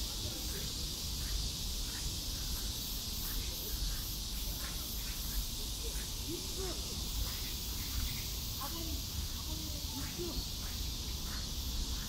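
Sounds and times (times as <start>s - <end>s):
faint distant voices: 0.0s - 12.0s
high-pitched insect chorus: 0.0s - 12.0s.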